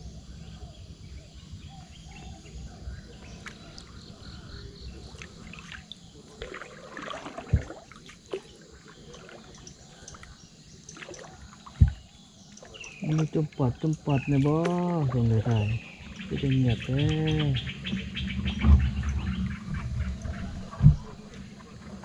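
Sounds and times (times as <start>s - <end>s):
birds or insects chirping: 0.0s - 22.0s.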